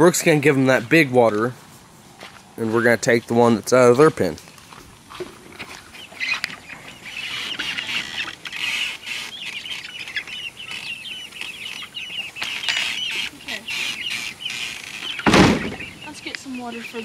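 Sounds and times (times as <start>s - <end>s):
chicks peeping: 2.2s - 17.0s.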